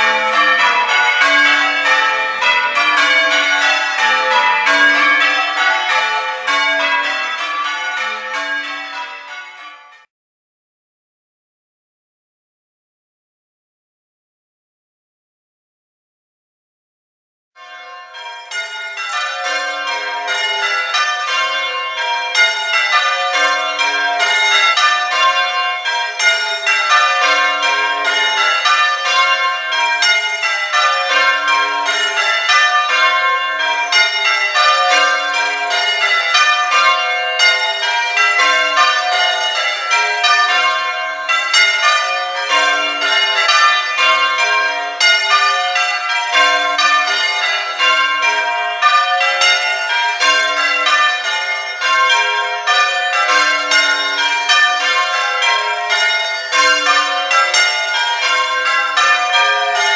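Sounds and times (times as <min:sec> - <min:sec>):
church bells change ringing: 0:00.0 - 0:10.1, 0:17.6 - 0:59.9.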